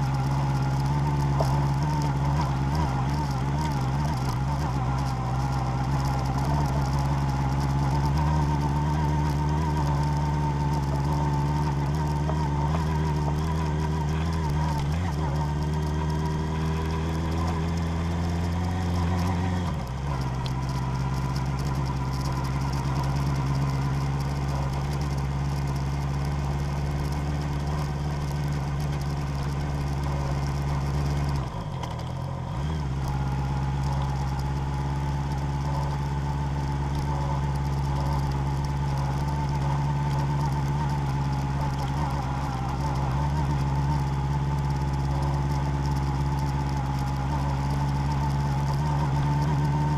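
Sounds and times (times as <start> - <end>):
vehicle engine driving off-road: 0.0 - 49.9.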